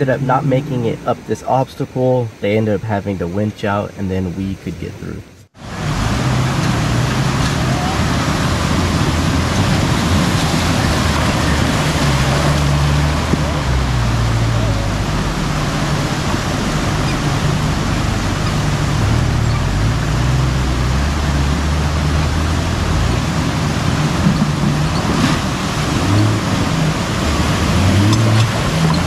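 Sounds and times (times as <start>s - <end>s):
creek rushing: 0.0s - 4.7s, 5.5s - 29.0s
car engine running low: 5.6s - 29.0s.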